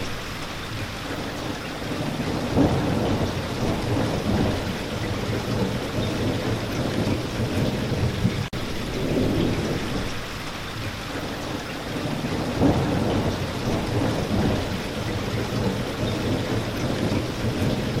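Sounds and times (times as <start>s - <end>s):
steady rainfall: 0.0s - 18.0s
low rolling thunder: 1.8s - 10.4s, 11.2s - 18.0s.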